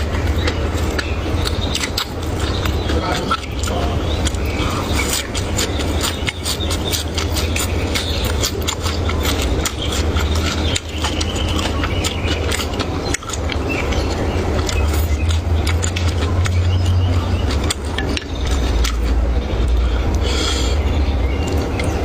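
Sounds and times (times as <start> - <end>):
eating crunches: 0.0 - 22.0
steady low hum: 0.0 - 22.0.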